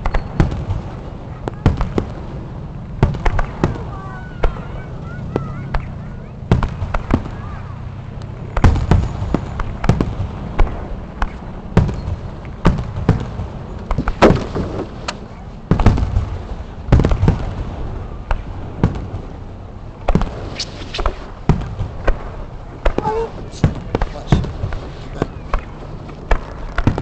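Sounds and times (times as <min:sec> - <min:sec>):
fireworks bursting with sharp bangs: 0:00.0 - 0:27.0
low rumble: 0:00.0 - 0:27.0.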